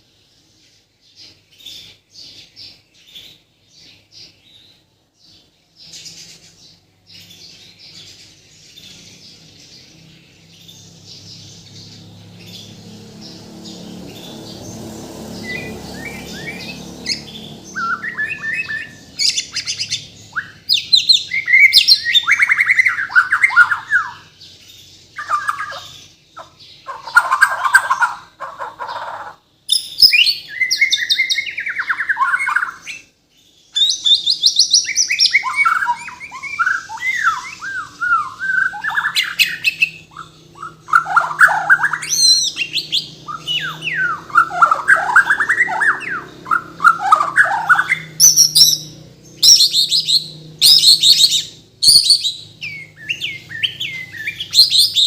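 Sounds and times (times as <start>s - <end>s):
songbird singing whistles and trills: 7.1s - 28.3s, 29.7s - 33.1s, 33.7s - 55.0s.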